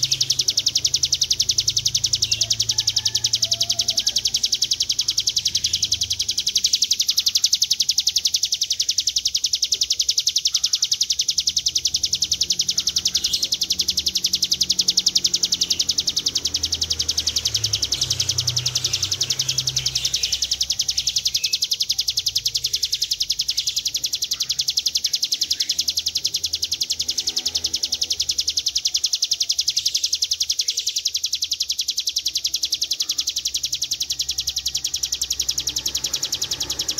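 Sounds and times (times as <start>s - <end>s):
bird high-pitched trill: 0.0s - 36.9s.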